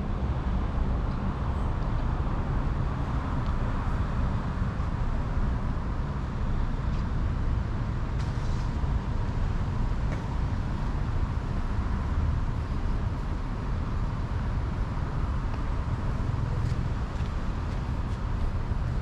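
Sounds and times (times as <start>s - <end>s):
passing vehicles rumbling: 0.0s - 19.0s.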